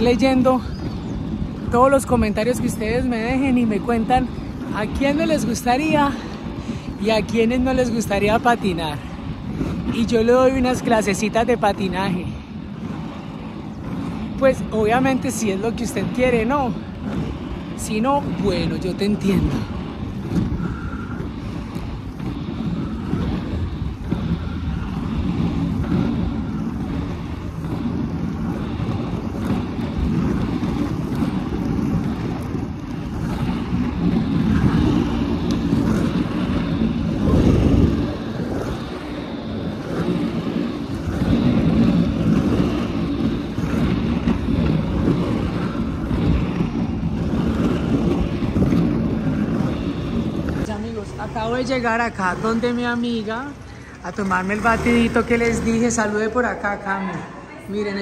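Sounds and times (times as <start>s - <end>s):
inline skate wheels rolling on asphalt: 0.0s - 58.0s
wind buffeting microphone: 0.0s - 58.0s.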